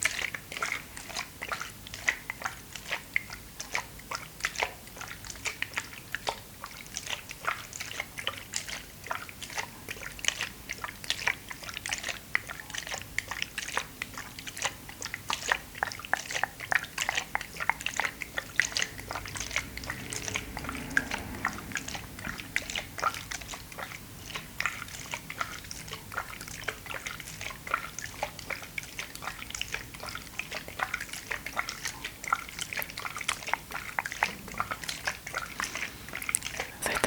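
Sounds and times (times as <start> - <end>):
wet clicking and smacking: 0.0 - 37.0.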